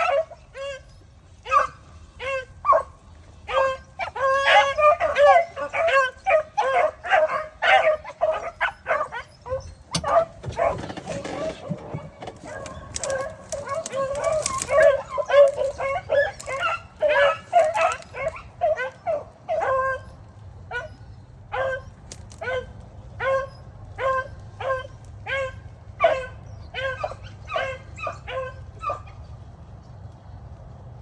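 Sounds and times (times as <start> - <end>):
dogs barking: 0.0 - 29.2.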